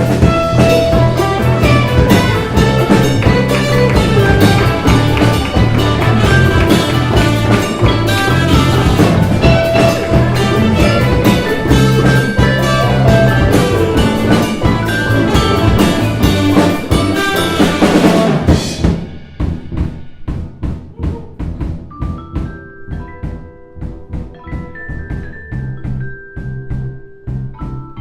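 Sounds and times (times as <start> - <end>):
vibraphone notes: 0.0 - 18.4, 21.6 - 28.0
drum kit: 0.0 - 28.0.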